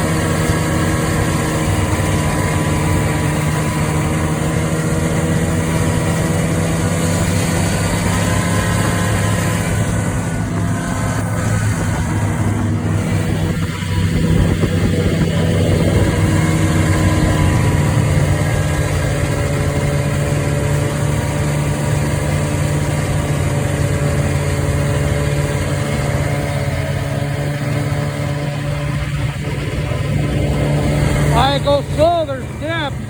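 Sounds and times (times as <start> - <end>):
snowmobile engine running: 0.0 - 33.0.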